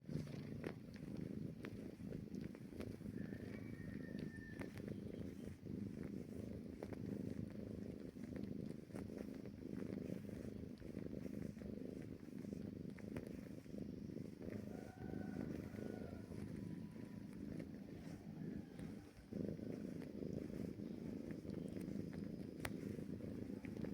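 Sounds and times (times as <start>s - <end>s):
kitten purring: 0.0s - 23.9s.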